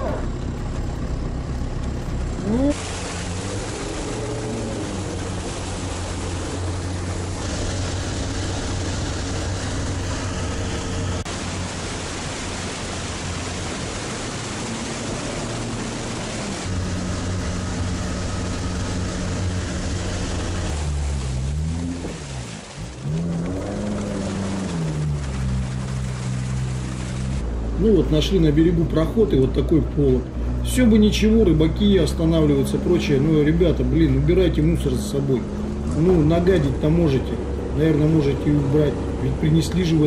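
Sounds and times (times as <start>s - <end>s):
vehicle engine running under load: 0.0s - 40.0s
water rushing: 0.0s - 40.0s.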